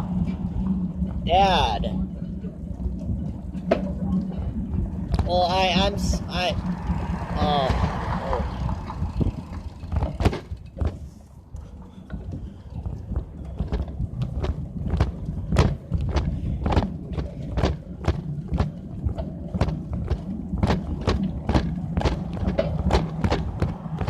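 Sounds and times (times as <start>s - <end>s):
bicycle rattling clicks and knocks: 0.0s - 24.0s
bicycle rumbling: 0.0s - 24.0s.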